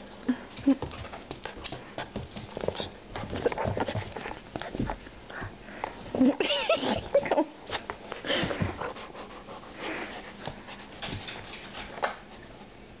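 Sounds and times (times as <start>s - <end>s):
puppy panting and snuffling: 0.8s - 6.2s, 6.8s - 12.3s.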